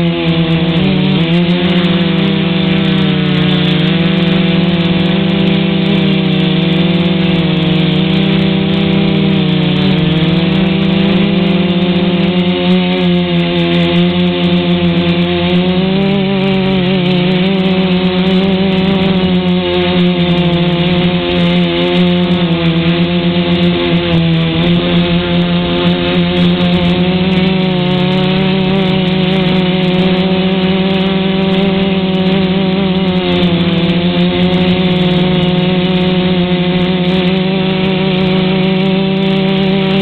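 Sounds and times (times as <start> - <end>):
drone propellers buzzing: 0.0 - 40.0.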